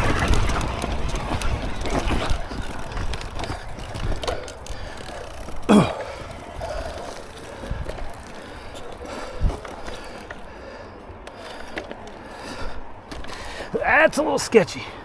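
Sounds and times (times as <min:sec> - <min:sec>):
mountain bike rattling on trail: 0:00.0 - 0:15.0.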